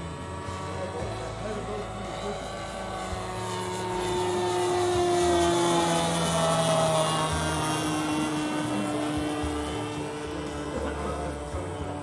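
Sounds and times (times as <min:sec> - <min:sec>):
model airplane motor buzzing: 0:00.0 - 0:12.0.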